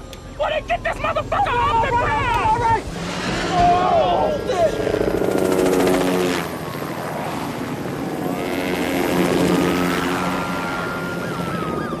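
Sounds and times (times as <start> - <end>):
helicopter rotor and turbine: 0.0 - 12.0
high turbine whine: 0.0 - 12.0.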